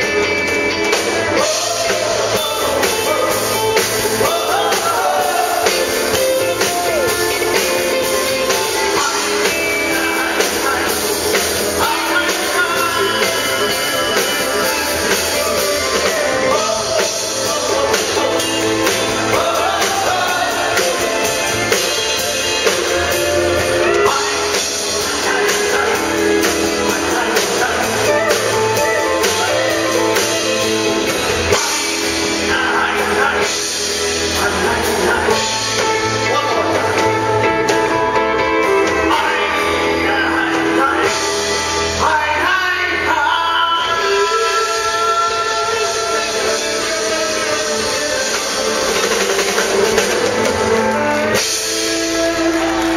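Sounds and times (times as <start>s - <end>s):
man singing into microphone: 0.0s - 37.5s, 38.6s - 52.9s
drum kit: 0.0s - 52.9s
live country band playing: 0.0s - 52.9s.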